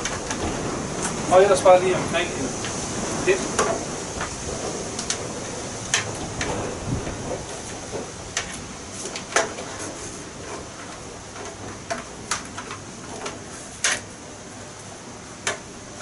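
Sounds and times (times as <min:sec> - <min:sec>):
string rustling on wooden stick: 0:00.0 - 0:14.5.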